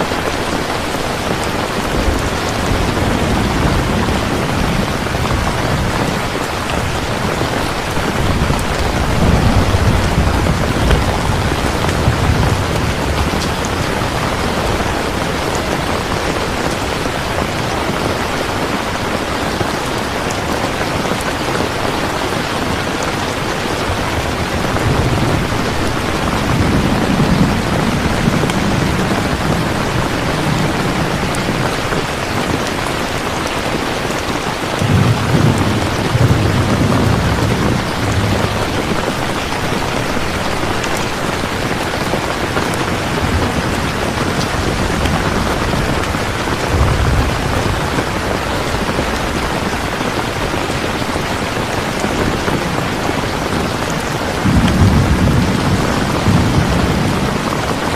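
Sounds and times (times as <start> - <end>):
heavy rain falling: 0.0 - 57.9
distant thunder rumbling: 1.4 - 19.8, 21.5 - 33.4, 34.0 - 57.9.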